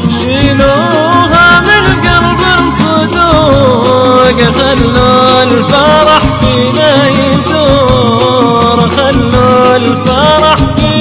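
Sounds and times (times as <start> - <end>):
wedding song with sliding melody: 0.0 - 11.0.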